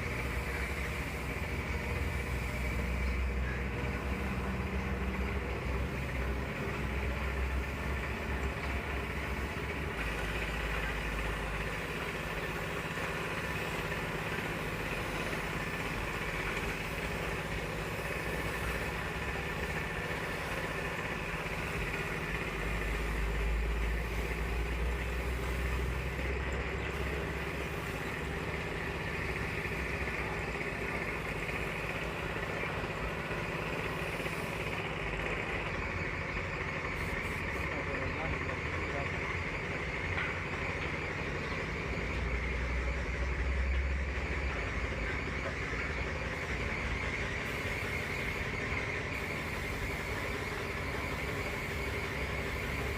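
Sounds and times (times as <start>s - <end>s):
motor running with low rumble: 0.0s - 52.9s.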